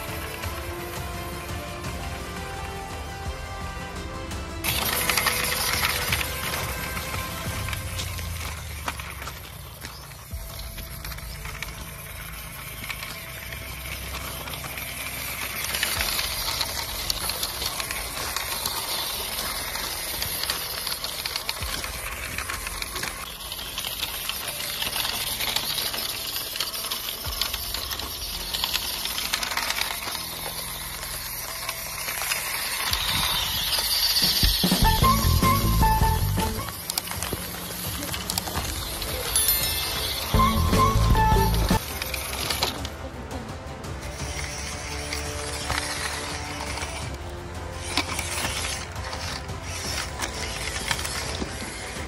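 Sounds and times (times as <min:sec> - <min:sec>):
toy truck crunching over gravel: 0:00.0 - 0:04.0, 0:04.6 - 0:52.0.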